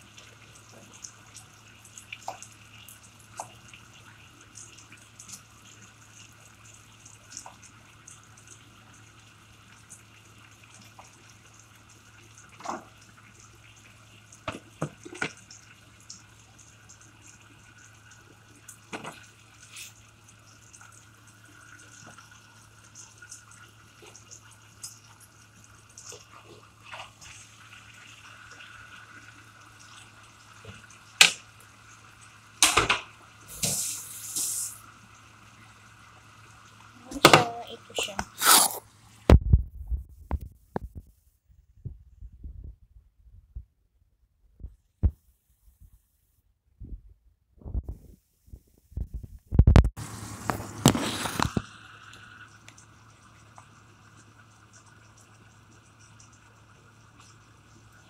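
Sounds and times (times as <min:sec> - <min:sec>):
tomato frying in oil: 0:00.0 - 0:39.6, 0:48.9 - 0:58.0.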